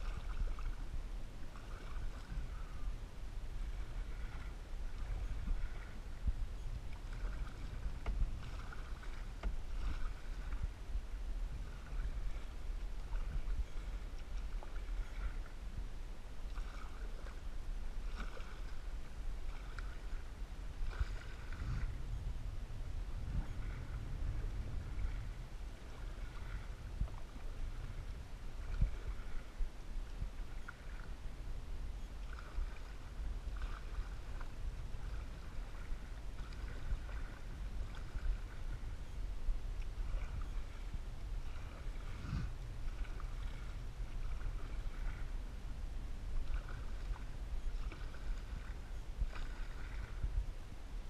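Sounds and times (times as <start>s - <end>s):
water swishing around paddle: 0.0s - 51.0s
wind rumble on microphone: 0.0s - 51.0s.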